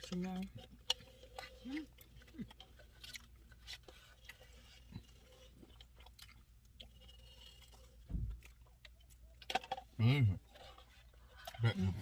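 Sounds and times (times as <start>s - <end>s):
mouth sounds of eating: 0.0s - 12.0s.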